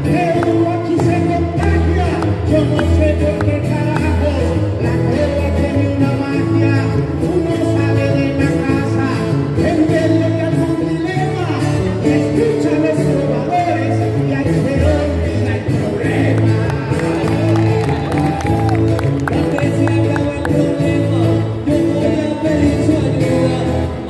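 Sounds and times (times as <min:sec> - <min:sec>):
instrumental backing music: 0:00.0 - 0:24.0
man singing into a microphone: 0:00.0 - 0:24.0.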